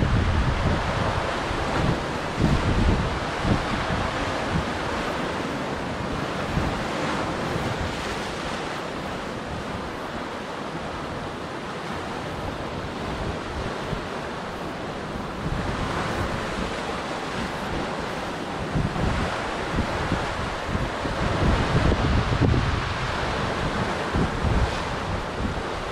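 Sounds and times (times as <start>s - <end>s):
surf breaking over rocks: 0.0s - 25.9s
wind buffeting microphone: 0.0s - 25.9s.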